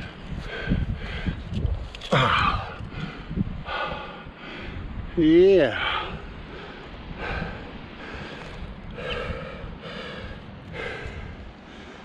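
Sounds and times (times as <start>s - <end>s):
person breathing hard: 0.1s - 1.4s, 2.3s - 4.9s, 5.8s - 12.0s.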